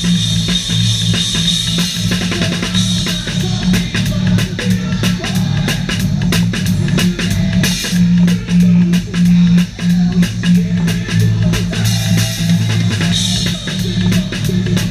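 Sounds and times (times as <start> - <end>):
live band playing: 0.0 - 14.9
low bass line: 0.0 - 14.9.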